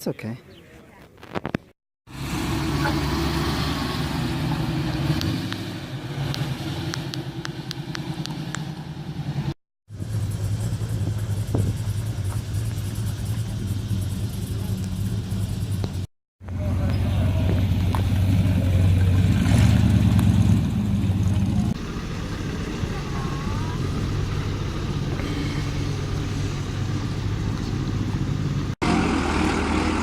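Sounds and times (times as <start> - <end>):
car engine idling: 5.6 - 30.0.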